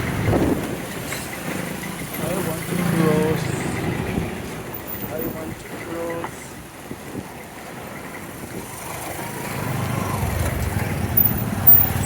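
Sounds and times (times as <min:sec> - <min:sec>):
motor vehicle engine rumble: 0:00.0 - 0:12.0.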